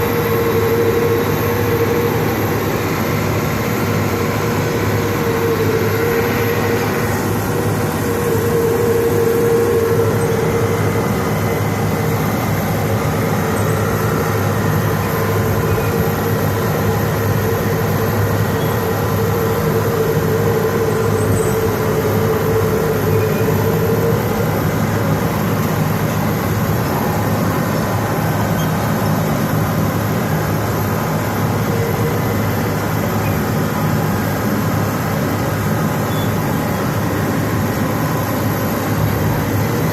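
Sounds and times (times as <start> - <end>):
bulldozer engine running: 0.0 - 39.9
steady whine: 0.0 - 39.9.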